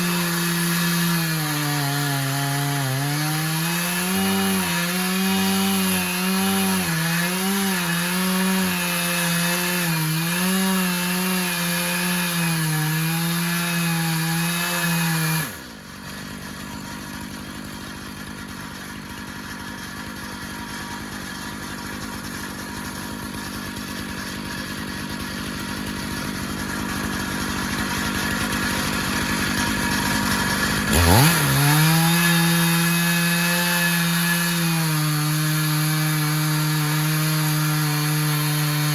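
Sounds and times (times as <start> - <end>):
chainsaw ripping a log: 0.0 - 38.9.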